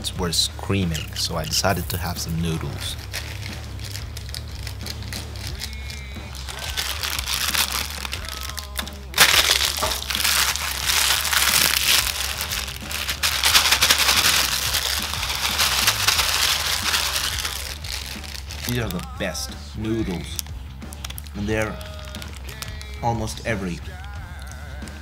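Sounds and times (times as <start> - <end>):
plastic packet crinkling: 0.9 - 24.9.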